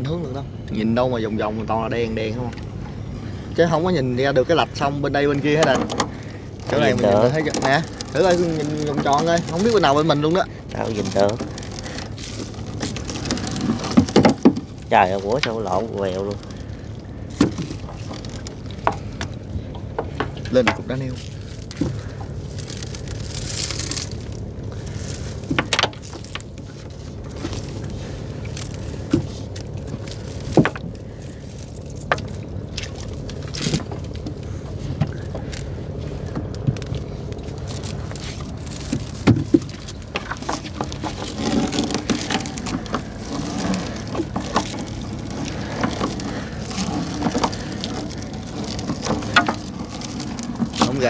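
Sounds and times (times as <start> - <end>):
fuller rougher engine sound: 0.0 - 51.0
motorboat engine running: 0.0 - 51.0
gear knocking and clattering: 5.6 - 51.0.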